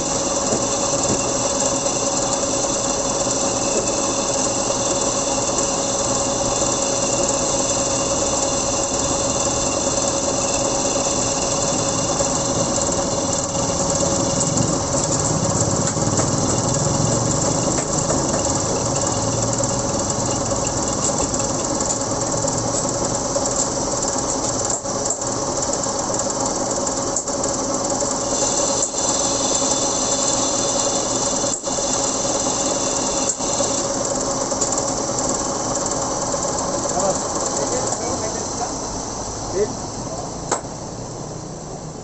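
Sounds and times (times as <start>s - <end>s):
metal lathe drone: 0.0s - 24.7s, 27.4s - 41.1s.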